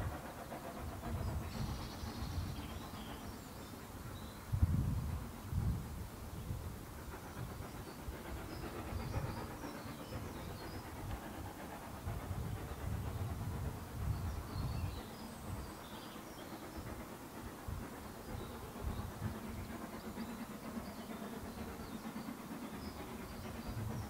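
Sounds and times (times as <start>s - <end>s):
distant steam locomotive chuffing: 0.0s - 24.0s
small birds chirping: 0.4s - 4.5s, 7.2s - 24.0s.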